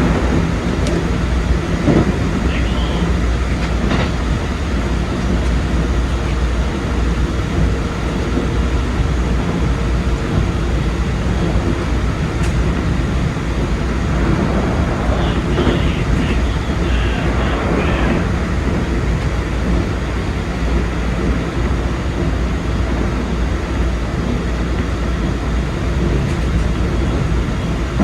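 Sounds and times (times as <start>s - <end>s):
electric train running: 0.0s - 28.0s.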